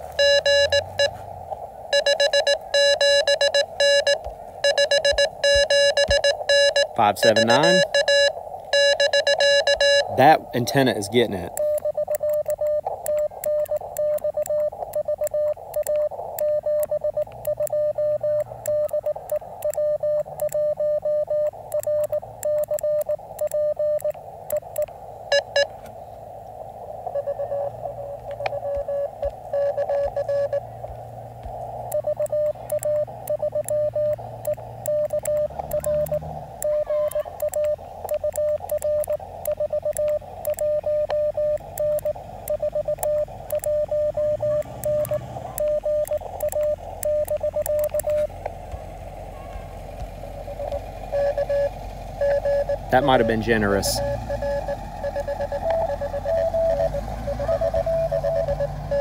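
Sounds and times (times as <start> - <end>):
morse code tone keying: 0.0 - 1.2, 1.9 - 25.8, 27.0 - 59.0
radio band hiss: 0.0 - 12.1, 12.8 - 17.6, 18.2 - 22.4, 24.2 - 58.9
fainter lower morse signal: 0.0 - 59.0
higher beeps: 0.1 - 1.2, 1.9 - 25.7, 27.1 - 31.0, 31.8 - 48.8, 50.1 - 59.0.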